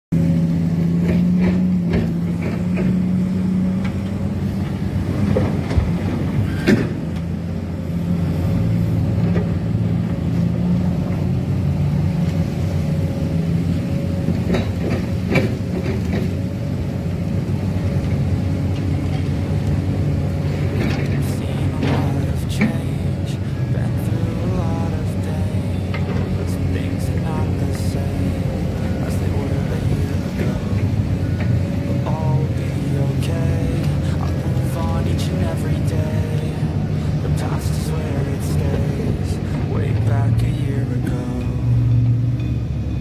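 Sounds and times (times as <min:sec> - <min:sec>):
heavy diesel engine drone: 0:00.0 - 0:43.0.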